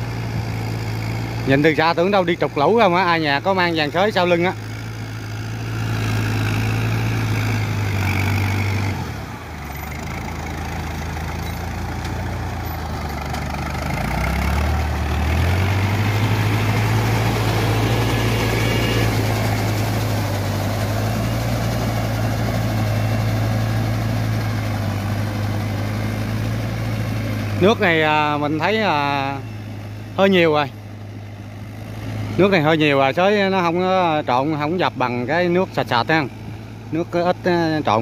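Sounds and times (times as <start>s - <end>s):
tractor diesel engine running hard: 0.0s - 38.0s.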